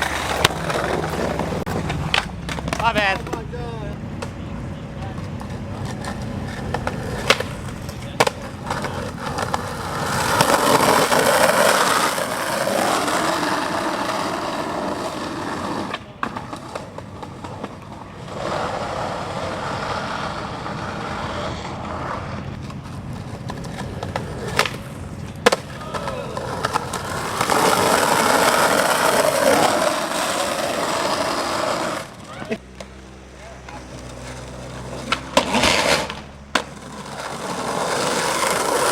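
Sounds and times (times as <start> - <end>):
skateboard clacks: 0.0 - 38.9
skateboard wheels rolling on pavement: 0.0 - 38.9.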